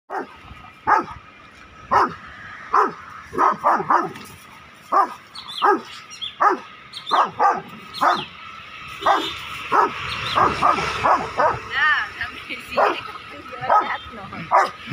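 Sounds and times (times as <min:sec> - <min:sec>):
dog barking aggressively: 0:00.1 - 0:01.2, 0:01.9 - 0:08.3, 0:09.0 - 0:11.7, 0:12.7 - 0:14.9.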